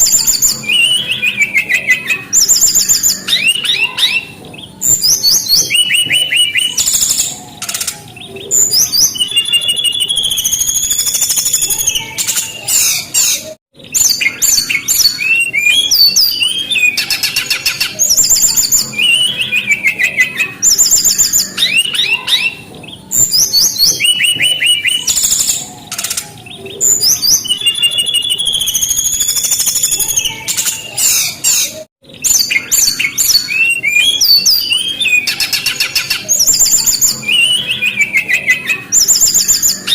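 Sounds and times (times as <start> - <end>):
bird whistles and trills: 0.0 - 39.9.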